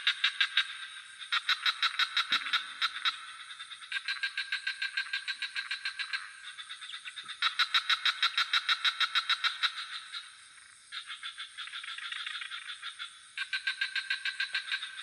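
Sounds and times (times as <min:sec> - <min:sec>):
frogs croaking in chorus: 0:00.0 - 0:15.0
high-pitched insect hum: 0:00.0 - 0:15.0.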